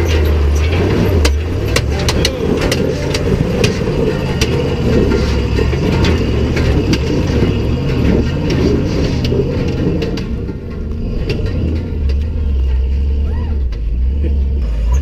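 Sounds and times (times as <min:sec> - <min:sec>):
off-road vehicle engine under load: 0:00.0 - 0:15.0
rocks and tyres clicking and knocking: 0:00.0 - 0:15.0.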